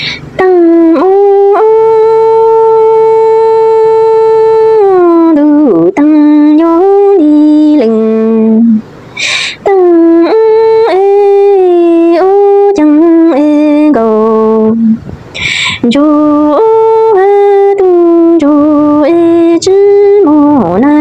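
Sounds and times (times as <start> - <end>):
woman singing unaccompanied: 0.0 - 21.0.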